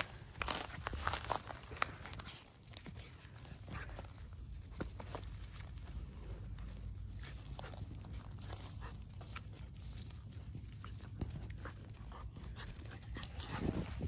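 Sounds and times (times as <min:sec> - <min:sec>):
dogs scuffling on dirt: 0:00.0 - 0:14.0.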